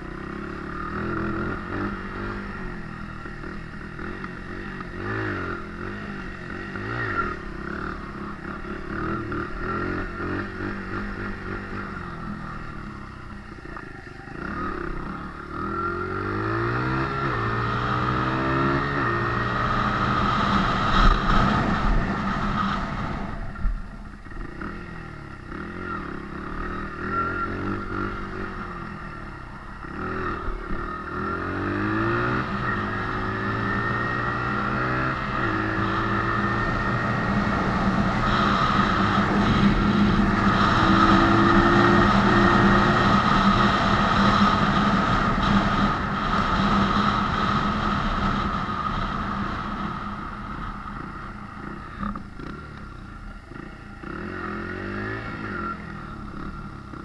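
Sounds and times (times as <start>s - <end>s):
dirt bike engine revving: 0.0s - 23.6s, 24.3s - 57.0s.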